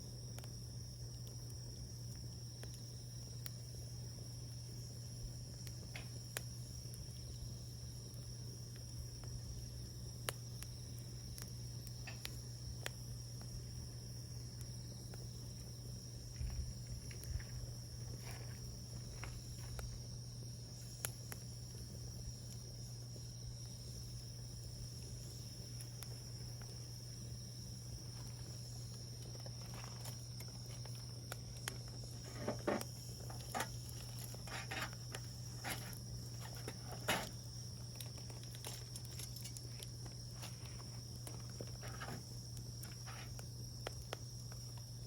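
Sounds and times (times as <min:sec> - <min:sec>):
wood fire crackling and popping: 0:00.0 - 0:45.0.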